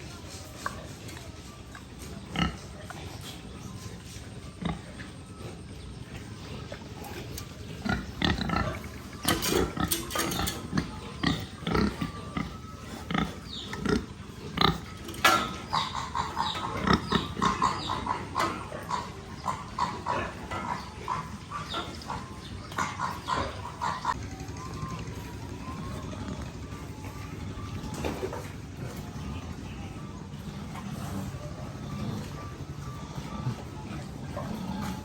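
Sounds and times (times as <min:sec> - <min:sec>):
piglets grunting and calling: 0:00.0 - 0:35.0.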